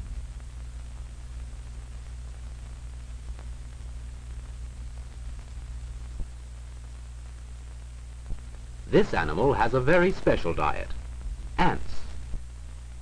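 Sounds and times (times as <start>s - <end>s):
film soundtrack hum and hiss: 0.0s - 13.0s.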